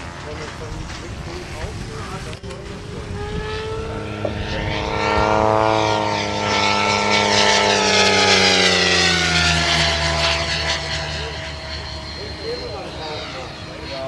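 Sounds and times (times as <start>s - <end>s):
rc helicopter motor whine: 0.0s - 14.0s
rotor blades rushing: 0.0s - 14.0s.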